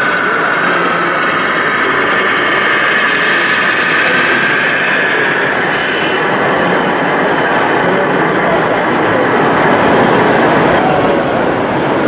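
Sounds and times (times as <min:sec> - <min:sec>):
higher whine: 0:00.0 - 0:11.9
noisy hall background: 0:00.0 - 0:12.0.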